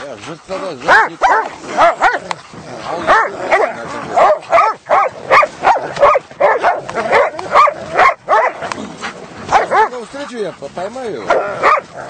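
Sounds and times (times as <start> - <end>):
dogs barking and yelping: 0.4 - 12.0.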